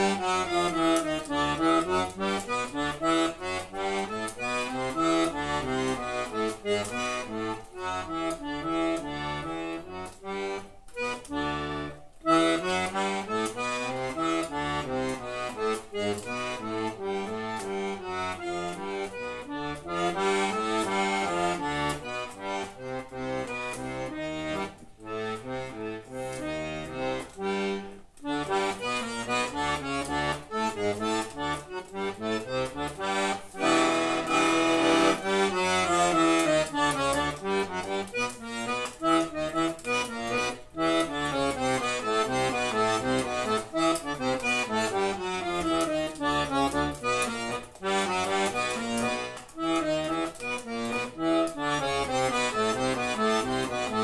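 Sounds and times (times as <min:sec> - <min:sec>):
piano accordion playing fast melody: 0:00.0 - 0:54.0.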